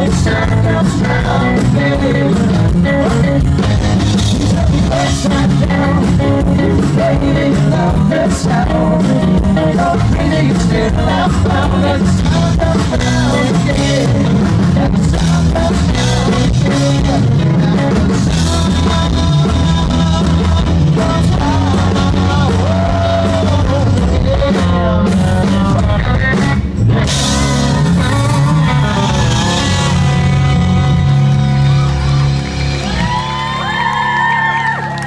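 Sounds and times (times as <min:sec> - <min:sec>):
lead vocal singing: 0:00.0 - 0:35.0
live rock band playing: 0:00.0 - 0:35.0.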